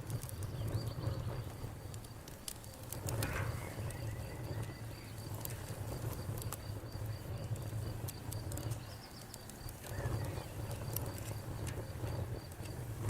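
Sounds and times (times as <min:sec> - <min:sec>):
campfire crackling: 0:00.0 - 0:13.0
insects chirping: 0:00.0 - 0:13.0.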